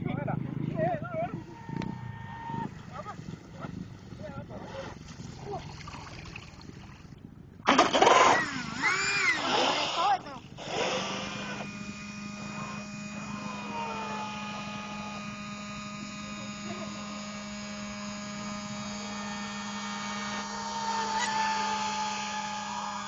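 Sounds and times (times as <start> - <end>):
model boat motor whining: 1.2 - 5.5, 7.7 - 23.0.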